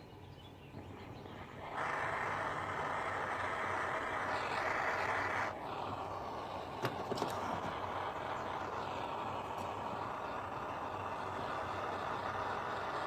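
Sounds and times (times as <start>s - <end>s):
torch flame hissing: 0.8s - 13.0s.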